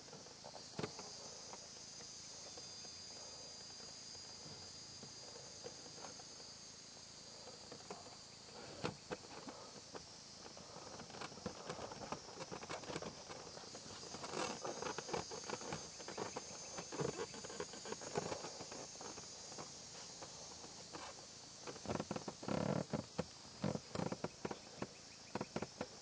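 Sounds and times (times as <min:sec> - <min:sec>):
high insect chirring: 0:00.0 - 0:26.0.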